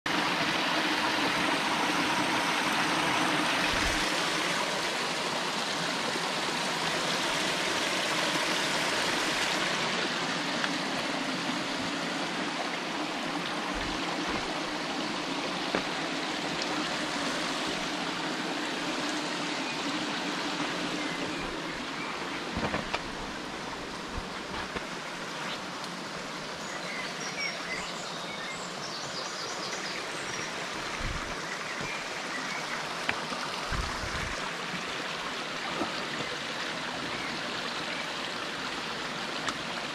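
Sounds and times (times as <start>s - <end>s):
stream running over rocks: 0.1s - 39.9s.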